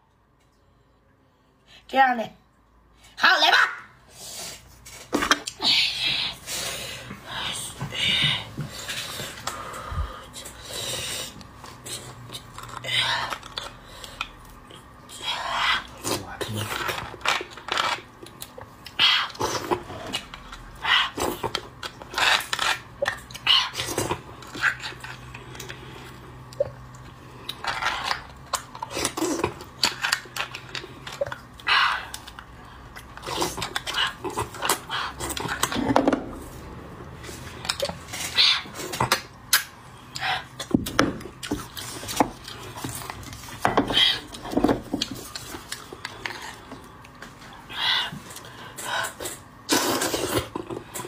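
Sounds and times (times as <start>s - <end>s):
wet chewing and slurping: 8.5s - 51.0s.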